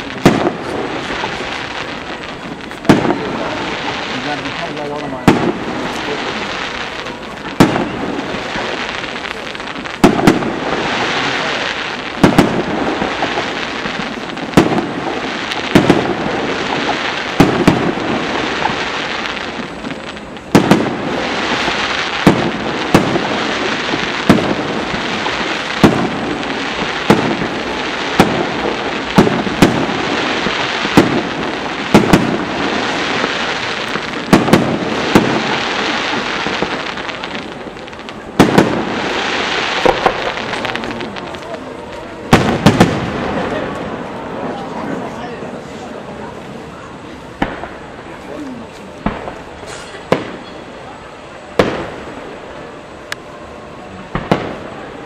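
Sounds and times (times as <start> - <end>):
firework shells bursting: 0.0 - 44.2
hiss and crackle of burning stars: 0.0 - 55.0.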